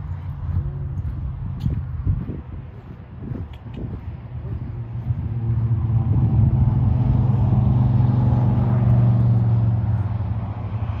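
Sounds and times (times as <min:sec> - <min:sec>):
distant engine droning: 0:00.0 - 0:11.0.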